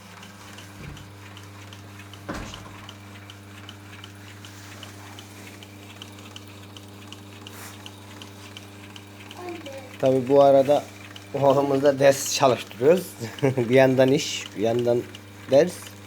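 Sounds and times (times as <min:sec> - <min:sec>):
machine ticking: 0:00.0 - 0:16.0
toe-linking machine humming: 0:00.0 - 0:16.0.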